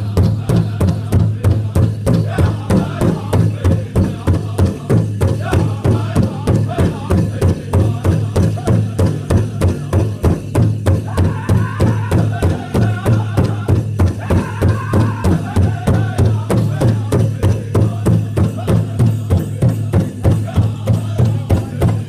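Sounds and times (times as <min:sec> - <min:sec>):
high-pitched voices singing: 0:00.0 - 0:09.8, 0:11.0 - 0:21.9
bass drum beating: 0:00.0 - 0:22.0
group singing: 0:00.0 - 0:22.0.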